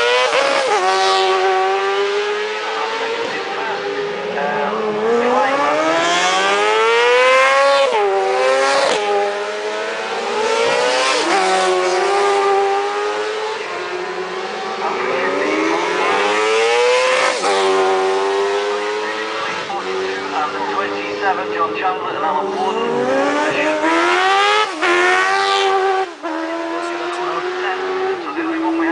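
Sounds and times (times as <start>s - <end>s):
racing engines revving: 0.0s - 28.9s.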